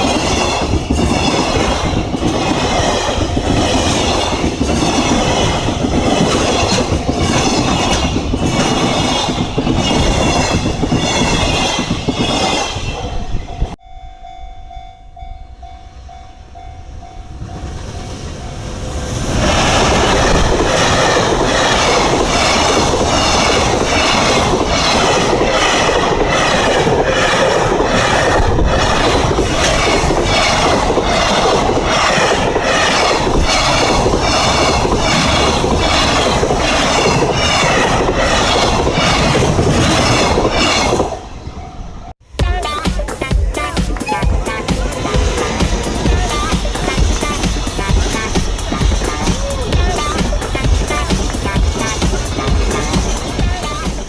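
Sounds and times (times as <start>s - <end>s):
train wheels clattering: 0.0s - 13.8s, 17.6s - 41.4s, 42.7s - 54.0s.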